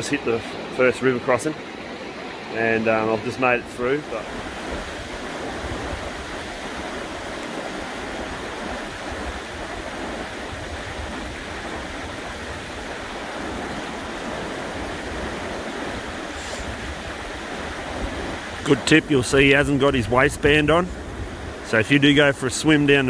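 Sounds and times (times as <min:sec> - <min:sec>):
river rushing over stones: 0:00.0 - 0:23.0.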